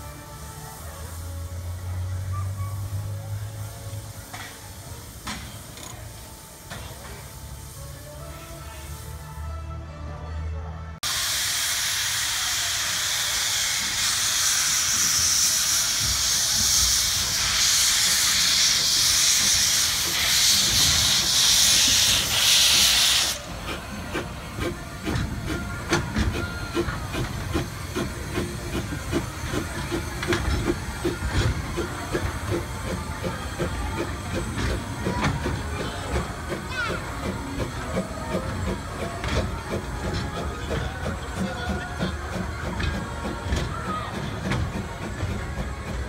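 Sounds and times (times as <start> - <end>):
steam locomotive hissing: 0.0 - 9.6, 11.0 - 46.0.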